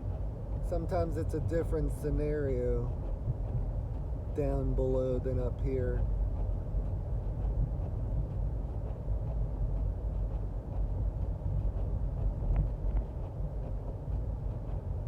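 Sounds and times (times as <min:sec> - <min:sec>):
road rumble and tyre noise: 0:00.0 - 0:15.0.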